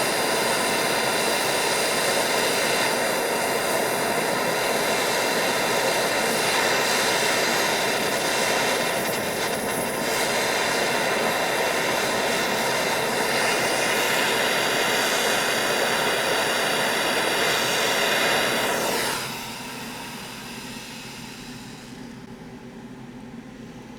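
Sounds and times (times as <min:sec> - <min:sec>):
blowtorch flame roaring: 0:00.0 - 0:21.8.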